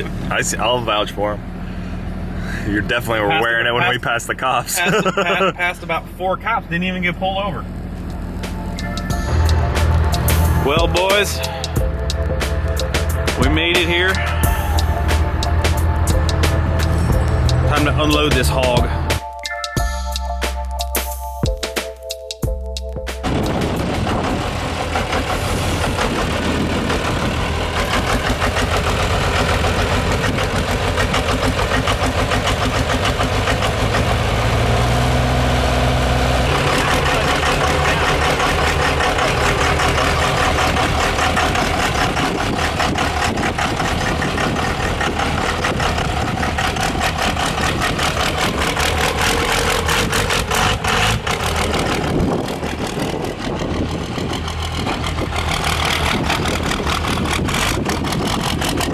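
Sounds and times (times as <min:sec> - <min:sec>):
diesel truck engine idling: 0:00.0 - 0:21.4, 0:22.6 - 0:58.9.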